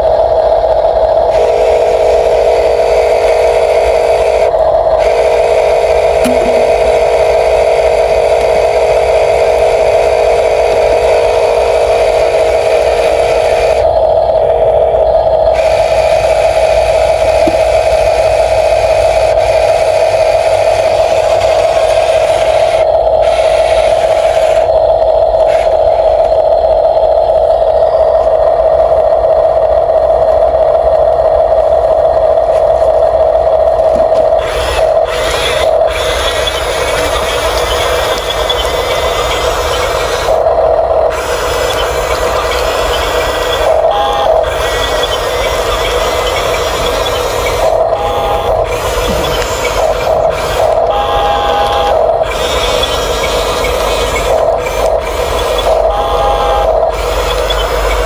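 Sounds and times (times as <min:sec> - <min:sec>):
toy electric motor whining: 0:00.0 - 0:58.0.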